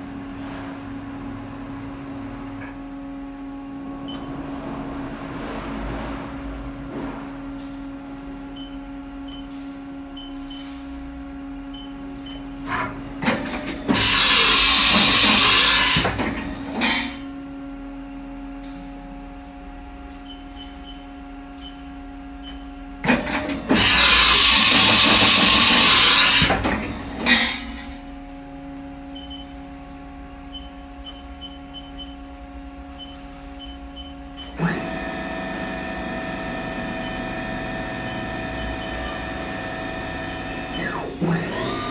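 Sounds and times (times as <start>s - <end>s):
steady machine hum: 0.0s - 41.9s
spindle multi-tone whine: 6.2s - 41.6s.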